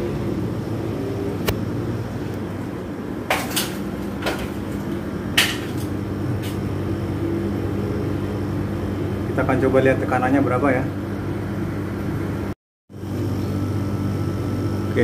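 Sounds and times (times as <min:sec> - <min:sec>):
air conditioner units humming: 0:00.0 - 0:15.0.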